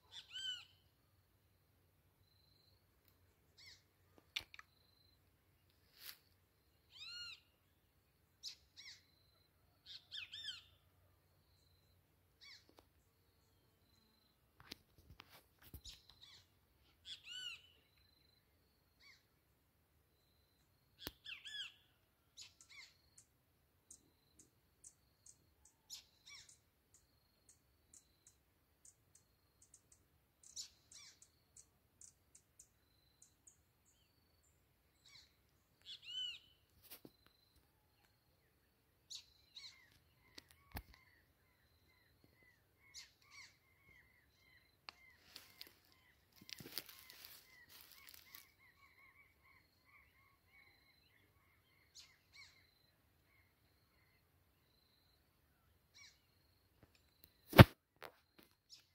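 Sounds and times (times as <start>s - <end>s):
faint birdsong: 0.0s - 58.9s.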